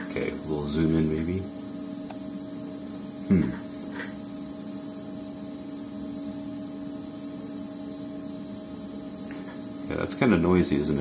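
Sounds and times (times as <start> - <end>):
constant hiss: 0.0 - 11.0
electrical hum: 0.0 - 11.0.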